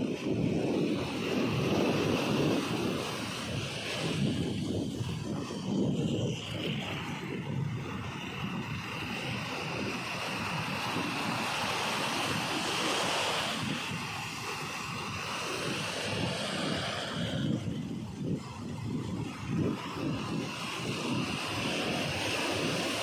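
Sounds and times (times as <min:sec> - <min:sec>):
sea surf washing onto beach: 0:00.0 - 0:23.0
wave breaking and rushing in: 0:00.0 - 0:23.0
wind buffeting the microphone: 0:00.0 - 0:23.0.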